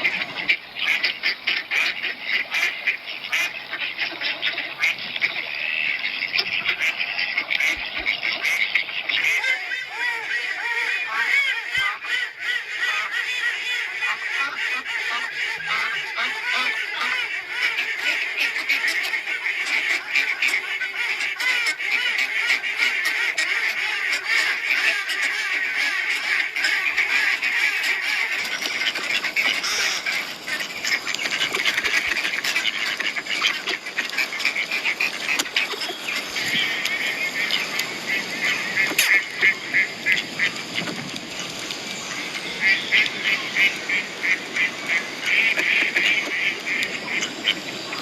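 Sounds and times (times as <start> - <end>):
ducks quacking: 0.0 - 48.0
geese honking: 0.0 - 48.0.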